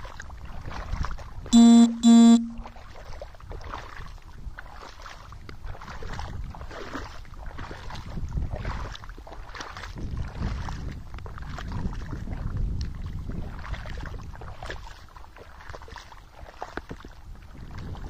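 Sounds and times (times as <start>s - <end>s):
wind rumble on microphone: 0.0s - 1.5s, 3.3s - 18.0s.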